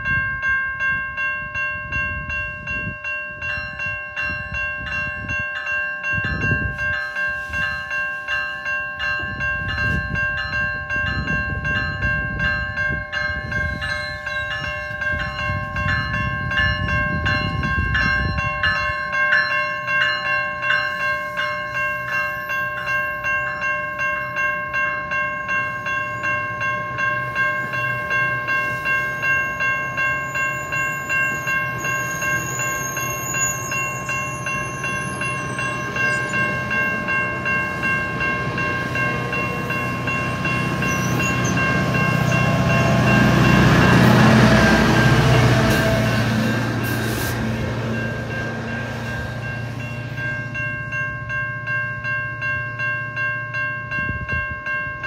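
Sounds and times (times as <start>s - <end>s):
level crossing bell ringing: 0.0s - 46.8s, 47.6s - 55.0s
diesel locomotive engine: 0.0s - 55.0s
train wheels rumbling on rail: 0.0s - 55.0s.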